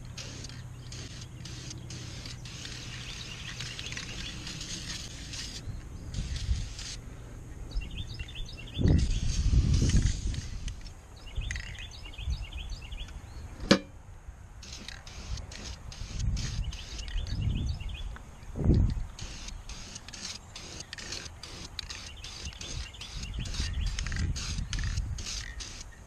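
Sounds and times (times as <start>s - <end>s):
outdoor background noise: 0.0s - 26.0s
small bird chirping: 0.2s - 13.7s, 14.7s - 26.0s.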